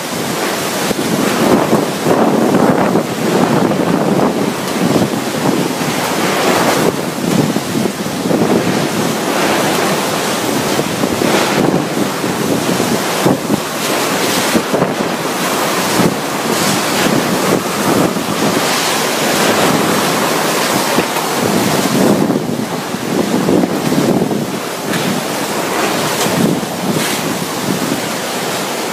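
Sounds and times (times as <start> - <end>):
driving rain: 0.0 - 28.9
strong wind gusts on microphone: 0.0 - 28.9.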